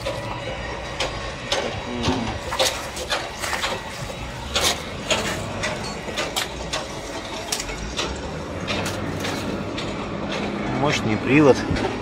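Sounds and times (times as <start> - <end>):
mechanical clicks and knocks: 0.0 - 10.7
steady background noise: 0.0 - 12.0.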